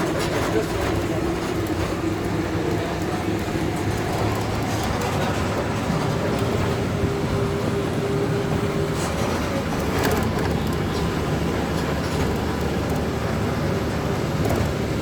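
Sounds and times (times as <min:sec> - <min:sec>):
road vehicle rumbling: 0:00.0 - 0:15.0.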